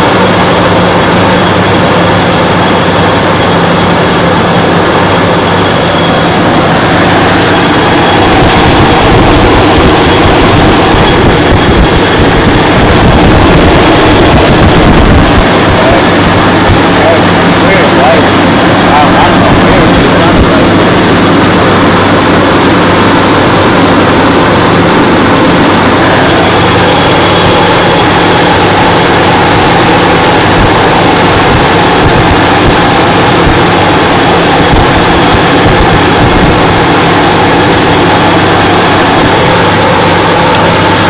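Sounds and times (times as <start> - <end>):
dense rushing noise: 0.0 - 41.0
truck engine low hum: 0.0 - 41.0.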